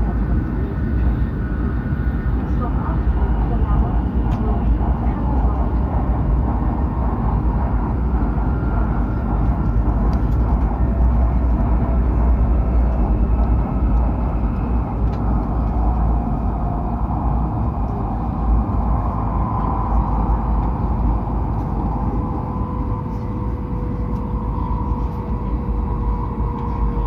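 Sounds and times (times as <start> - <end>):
faint wavering whine: 0.0 - 27.0
high-speed train rumble: 0.0 - 27.0.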